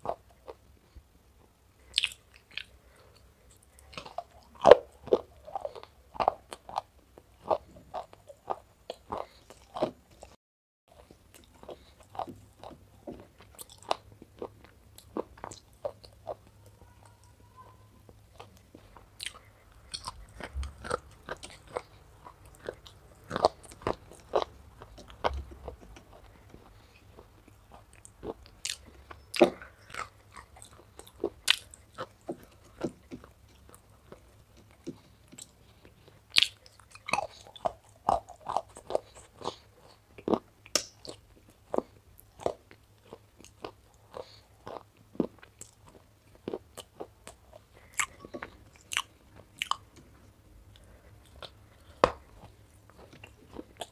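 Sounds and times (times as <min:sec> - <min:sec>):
crunchy wet chewing: 0:01.8 - 0:17.3, 0:18.1 - 0:53.9.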